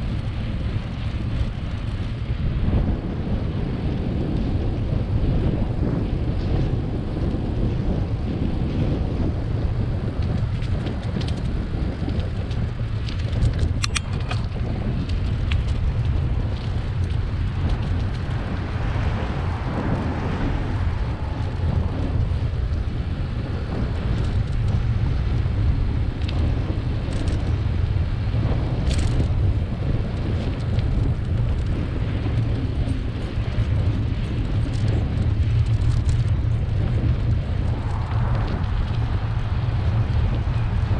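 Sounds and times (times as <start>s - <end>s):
passing traffic: 0.0s - 40.9s
tyre and road noise: 0.0s - 40.9s
wind rumbling on microphone: 0.0s - 40.9s.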